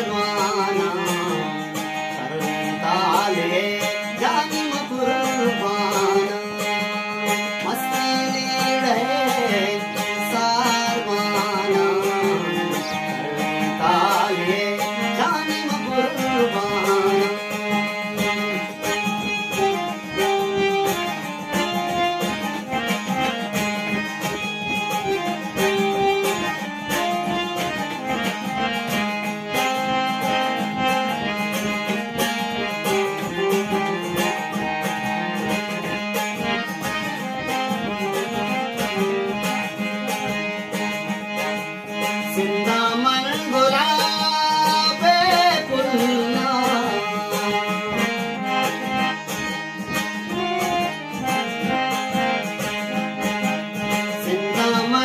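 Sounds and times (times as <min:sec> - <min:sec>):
harmonium melody over drone: 0:00.0 - 0:55.0.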